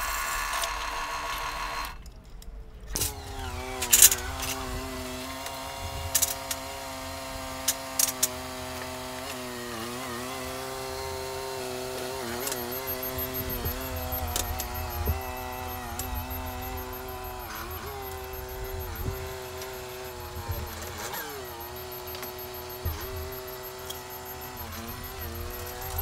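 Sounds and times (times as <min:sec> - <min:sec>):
forklift engine running and revving: 0:02.9 - 0:26.0.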